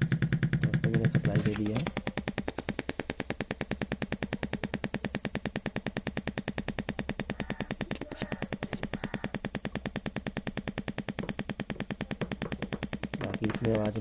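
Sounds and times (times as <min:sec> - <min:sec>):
loudspeaker fast ticking: 0:00.0 - 0:14.0.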